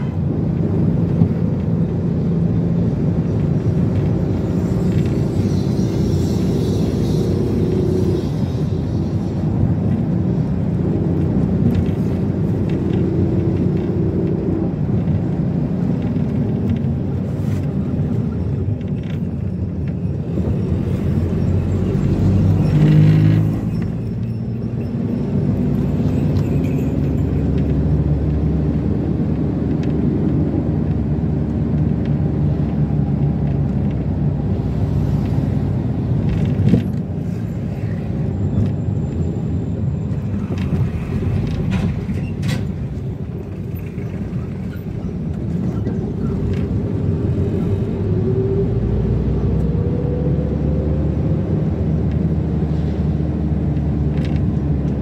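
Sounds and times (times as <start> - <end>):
minivan engine running: 0.0 - 55.0
road rumble: 0.0 - 55.0.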